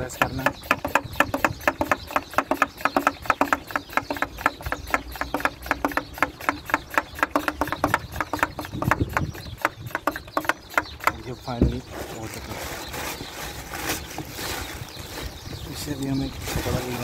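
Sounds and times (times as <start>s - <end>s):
hand pump strokes: 0.0s - 15.4s, 16.0s - 17.0s.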